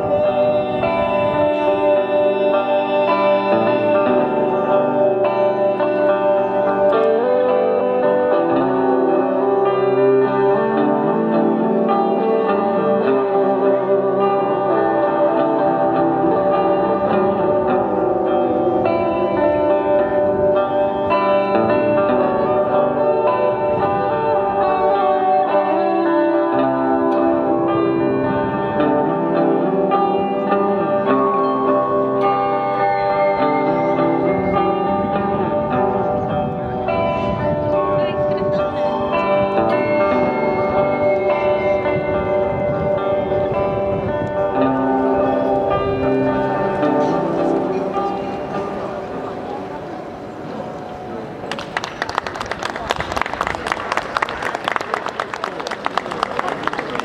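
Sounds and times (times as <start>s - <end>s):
electric guitar with heavy echo: 0.0s - 57.0s.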